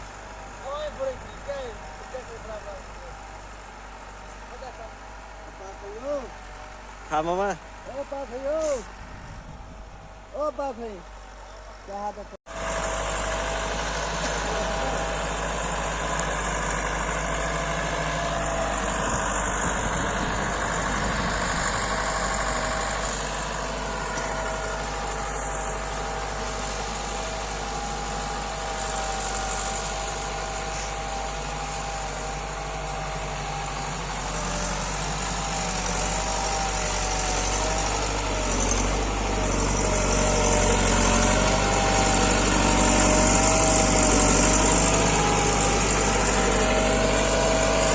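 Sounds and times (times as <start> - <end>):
tractor engine running: 0.0 - 11.8, 12.5 - 47.9.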